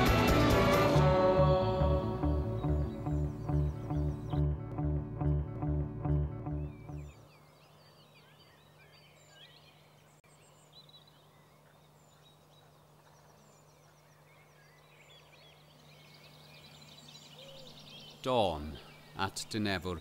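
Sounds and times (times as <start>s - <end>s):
small birds chirping and warbling: 2.1s - 5.0s, 6.0s - 20.0s.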